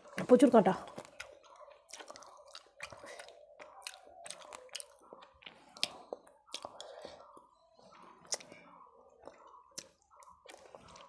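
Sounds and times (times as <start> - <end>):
mouth chewing with wet smacks: 0.0 - 11.0.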